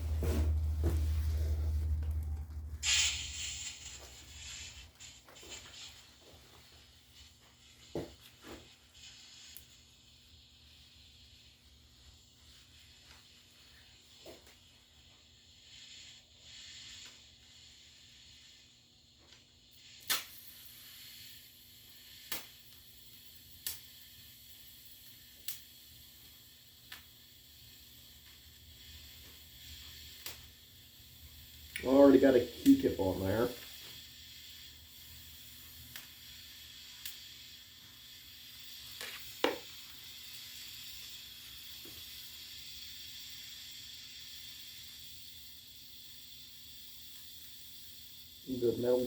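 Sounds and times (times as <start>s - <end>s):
faint steady hiss: 0.0s - 49.0s.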